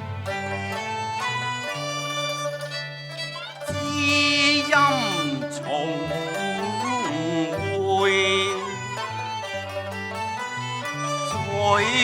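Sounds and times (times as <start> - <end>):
bowed strings sliding in pitch: 0.0 - 12.0
opera accompaniment ensemble playing: 0.0 - 12.0.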